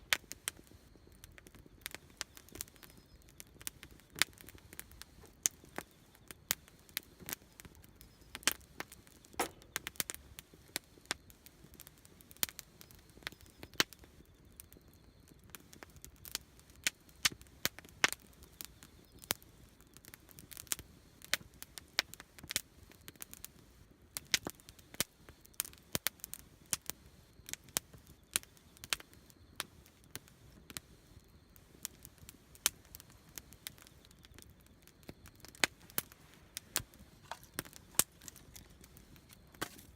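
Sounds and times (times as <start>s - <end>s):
campfire crackling: 0.0s - 39.9s
faint steady hiss: 0.0s - 39.9s.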